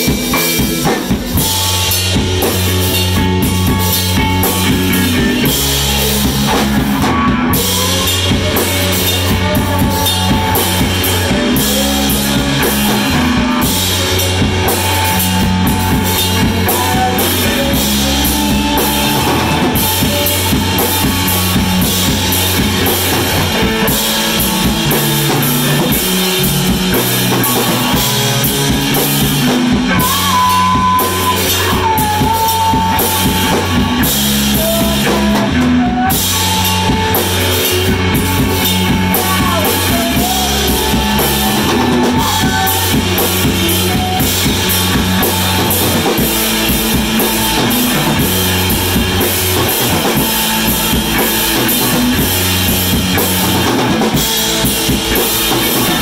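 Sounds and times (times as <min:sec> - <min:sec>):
bending lead guitar notes: 0:00.0 - 0:56.0
live rock band playing: 0:00.0 - 0:56.0.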